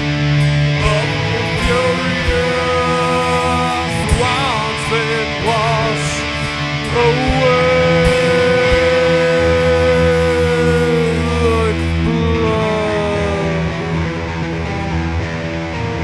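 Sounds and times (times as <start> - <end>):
hard rock band playing: 0.0 - 16.0
lead electric guitar with bent notes: 0.0 - 16.0.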